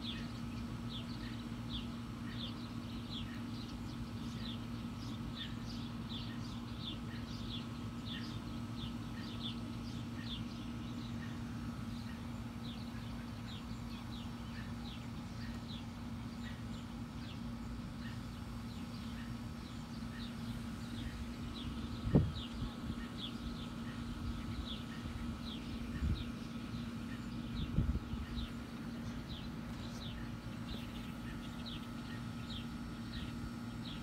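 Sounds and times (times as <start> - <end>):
birds chirping: 0.0 - 34.0
constant low hum: 0.0 - 34.0.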